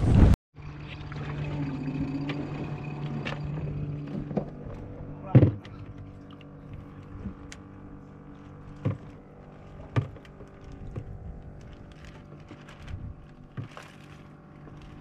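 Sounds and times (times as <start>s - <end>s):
boat engine idling: 0.6s - 15.0s.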